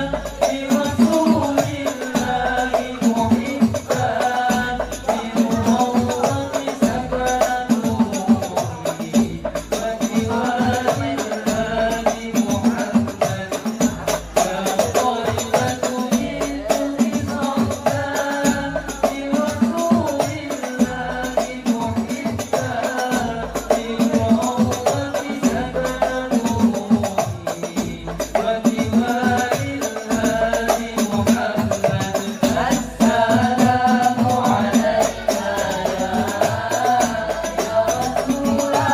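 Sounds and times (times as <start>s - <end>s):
frame drums beating: 0.0s - 38.9s
young man singing into microphone: 0.0s - 38.9s.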